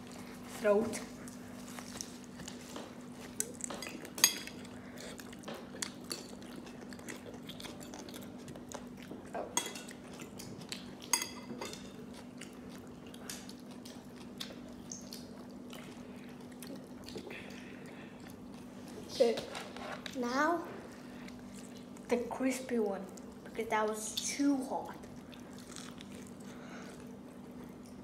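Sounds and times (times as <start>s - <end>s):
child chewing and smacking: 0.0s - 28.0s
steady low hum: 0.0s - 28.0s.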